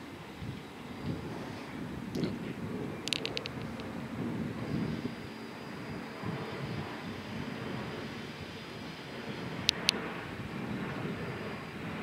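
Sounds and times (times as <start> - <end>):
distant jet airliner rumble: 0.0 - 12.0.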